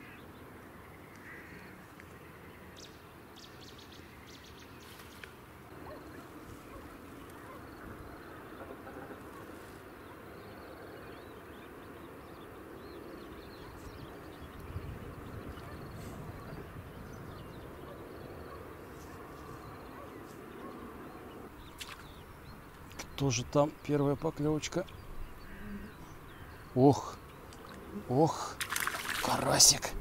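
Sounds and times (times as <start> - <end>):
birds chattering: 0.0 - 30.0.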